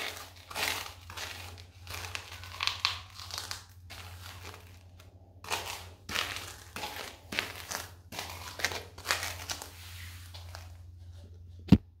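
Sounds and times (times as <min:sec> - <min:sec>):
pretzels crunching underfoot: 0:00.0 - 0:11.0.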